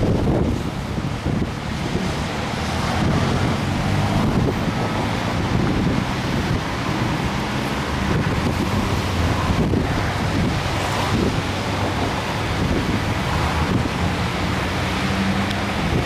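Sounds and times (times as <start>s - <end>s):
floodwater rushing: 0.0s - 16.0s
wind buffeting microphone: 0.0s - 16.0s.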